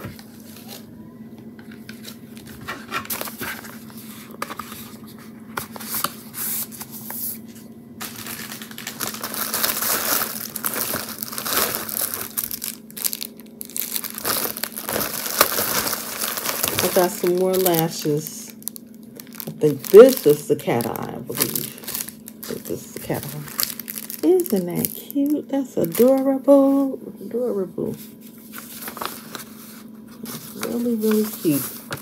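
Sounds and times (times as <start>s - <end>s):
plastic packaging crinkling: 1.6s - 7.3s, 8.0s - 26.9s, 28.0s - 32.0s.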